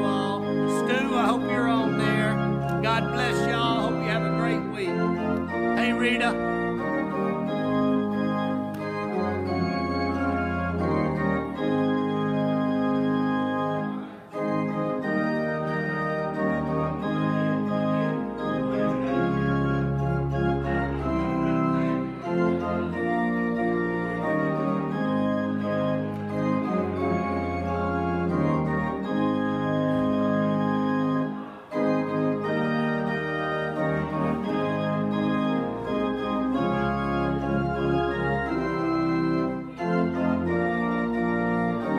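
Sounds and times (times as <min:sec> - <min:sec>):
church organ chords: 0:00.0 - 0:41.9.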